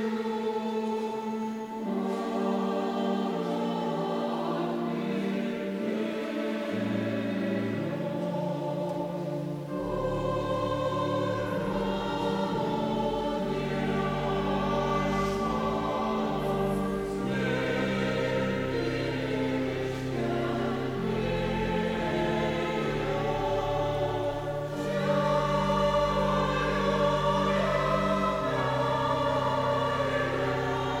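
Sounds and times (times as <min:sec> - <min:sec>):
church choir singing a hymn: 0:00.0 - 0:31.0.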